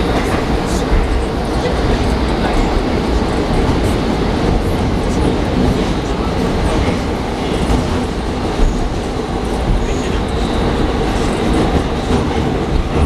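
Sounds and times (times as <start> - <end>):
metro train wheels rumbling: 0.0 - 13.0.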